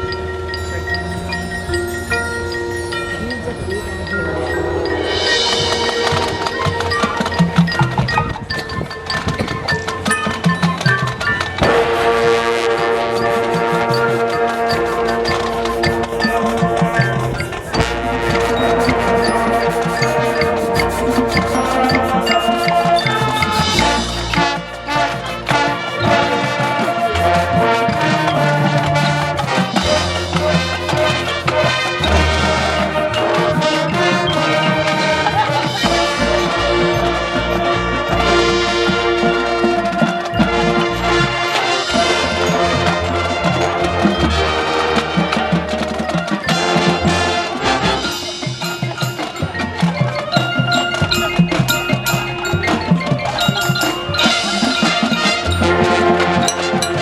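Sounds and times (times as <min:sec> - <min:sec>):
mallet and bell notes: 0:00.0 - 0:57.0
marching band playing: 0:10.0 - 0:57.0.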